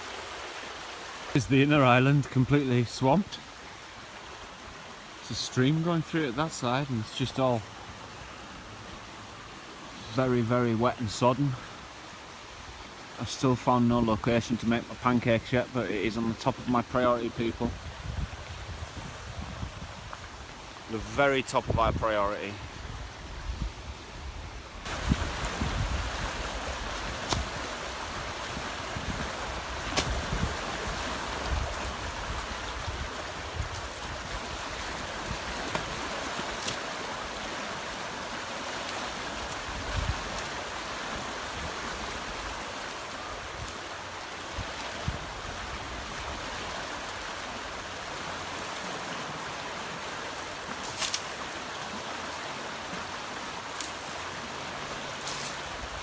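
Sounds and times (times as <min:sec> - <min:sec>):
river rushing: 0:00.0 - 0:23.3, 0:24.6 - 0:56.0.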